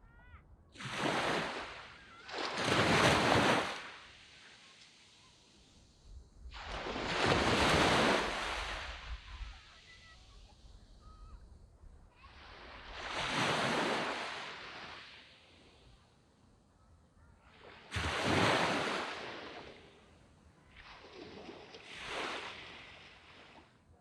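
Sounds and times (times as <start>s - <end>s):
waves breaking on beach: 0.8s - 16.3s, 17.3s - 24.0s.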